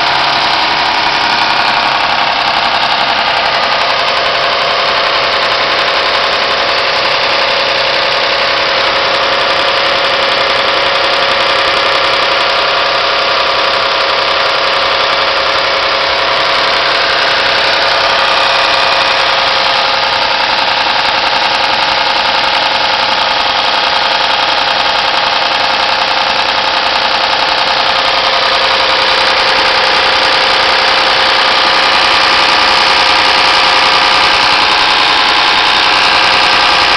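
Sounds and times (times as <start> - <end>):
car engine idling with clatter: 0.0 - 36.9.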